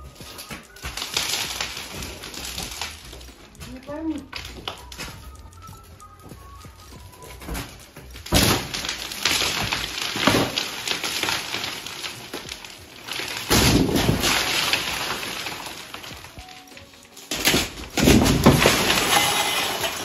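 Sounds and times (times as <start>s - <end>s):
ceiling panels torn down: 0.0s - 5.2s, 7.3s - 20.0s
debris crashing down: 0.0s - 20.0s.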